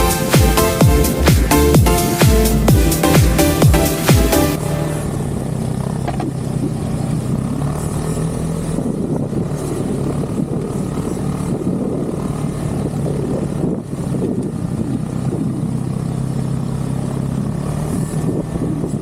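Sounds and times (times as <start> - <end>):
snowmobile engine droning: 0.0 - 19.0.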